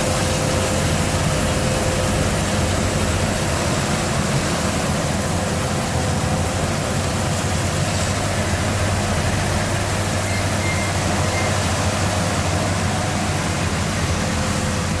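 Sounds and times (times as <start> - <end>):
combine harvester drone: 0.0 - 15.0.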